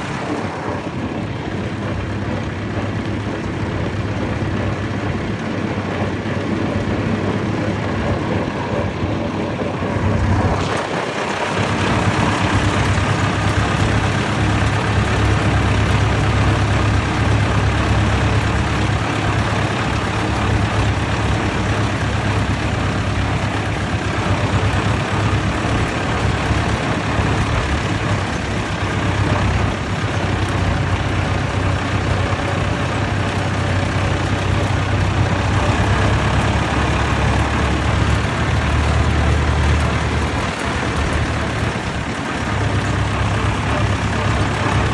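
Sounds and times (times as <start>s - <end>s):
tractor engines droning: 0.0s - 44.9s.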